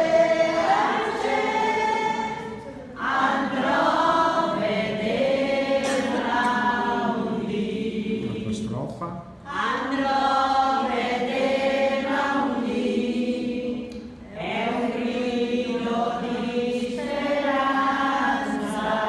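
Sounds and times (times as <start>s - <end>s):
women singing unaccompanied: 0.0s - 8.2s, 9.4s - 19.0s.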